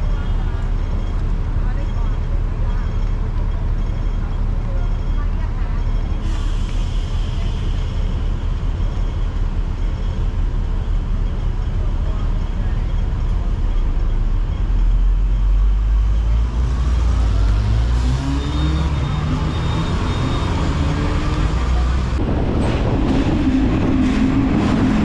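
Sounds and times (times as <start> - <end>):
tram rumbling: 0.0 - 25.0.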